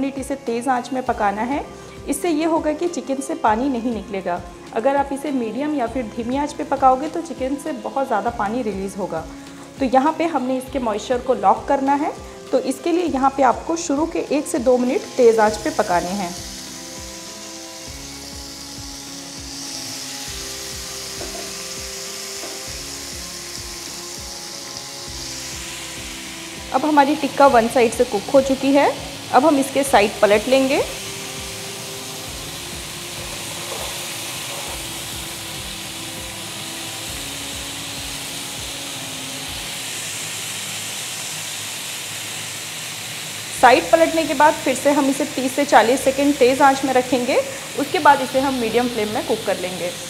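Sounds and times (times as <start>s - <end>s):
background music with held notes: 0.0s - 50.0s
meat sizzling on grill pan: 1.0s - 50.0s.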